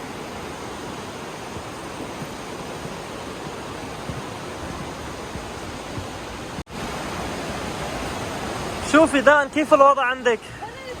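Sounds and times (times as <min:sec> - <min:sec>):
river water rushing in gorge: 0:00.0 - 0:11.0.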